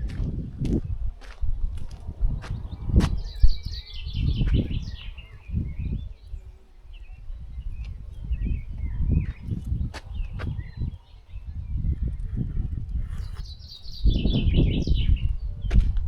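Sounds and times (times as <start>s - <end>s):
wild birds singing: 0.8s - 15.6s.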